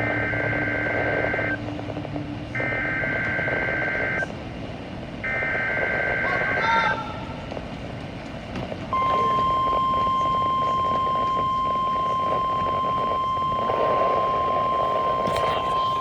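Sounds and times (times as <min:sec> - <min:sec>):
steady warning alarm tone: 0:00.0 - 0:04.3, 0:05.2 - 0:06.8, 0:08.9 - 0:16.0.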